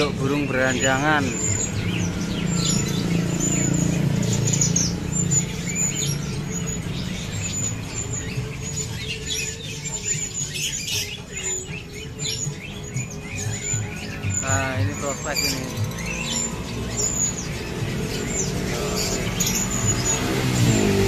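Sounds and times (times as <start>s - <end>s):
flock of birds chirping: 0.0s - 21.0s.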